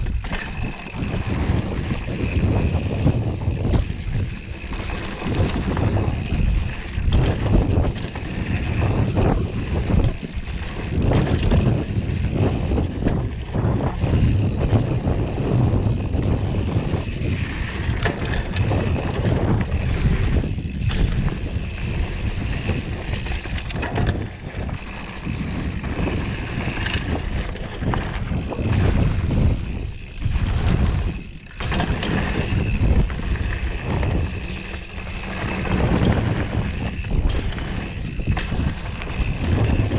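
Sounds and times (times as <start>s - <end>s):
bike rattling over bumps: 0.0s - 39.9s
tyres rolling on dirt: 0.0s - 39.9s
wind rumbling on microphone: 0.0s - 39.9s.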